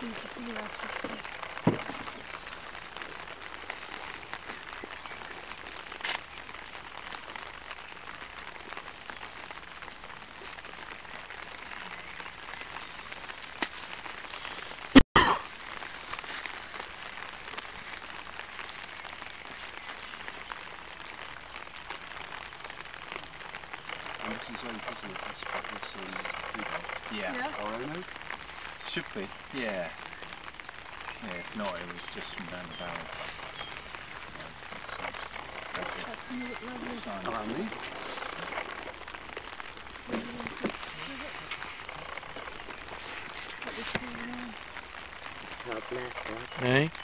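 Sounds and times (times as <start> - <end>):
light rain pattering: 0.0 - 47.0.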